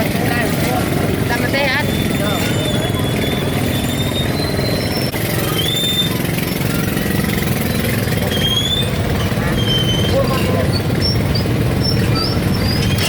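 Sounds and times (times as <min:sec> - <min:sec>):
small engine idling: 0:00.0 - 0:13.0
thin high whistling tones: 0:01.6 - 0:06.7, 0:07.6 - 0:13.0.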